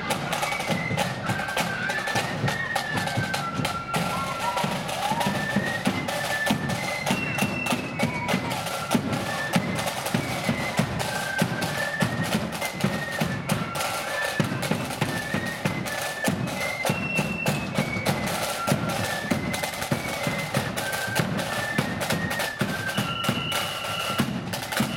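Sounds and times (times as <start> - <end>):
flutes playing melody: 0.0 - 24.9
side drums: 0.0 - 24.9.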